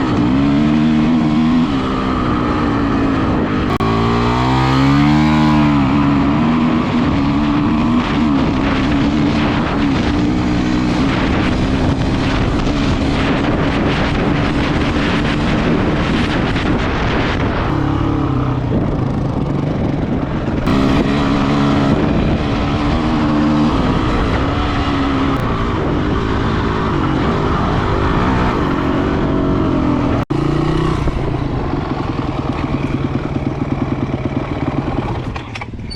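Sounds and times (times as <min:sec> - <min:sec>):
dirt bike engine revving: 0:00.0 - 0:35.2.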